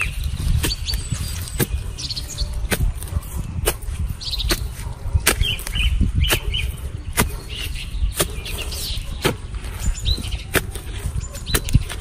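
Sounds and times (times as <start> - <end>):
birds chirping: 0.0 - 12.0
hoe chopping stony soil: 0.0 - 12.0.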